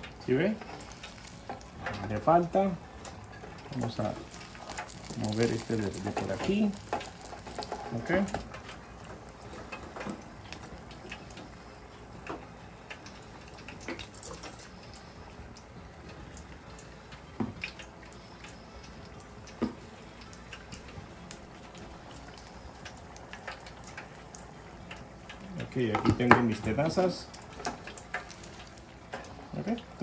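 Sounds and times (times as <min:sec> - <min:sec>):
fish deep-frying in oil: 0:00.0 - 0:30.0.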